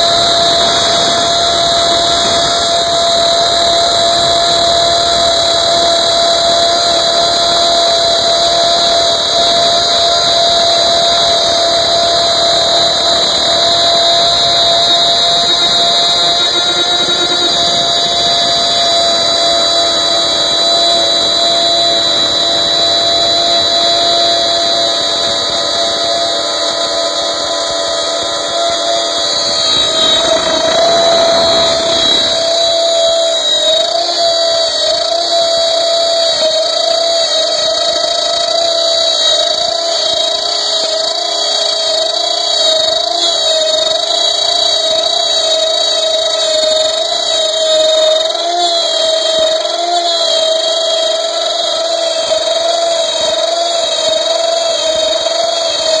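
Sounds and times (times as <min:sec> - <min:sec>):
wood router high whine: 0:00.0 - 0:56.0.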